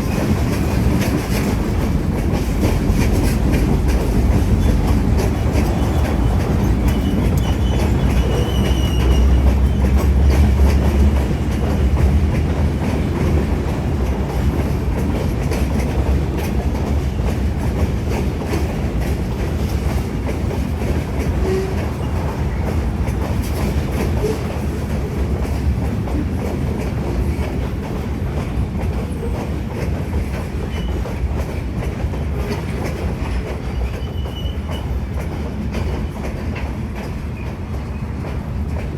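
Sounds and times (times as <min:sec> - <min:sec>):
train low rumble: 0:00.0 - 0:38.9
train wheels clacking over rail joints: 0:00.0 - 0:38.9.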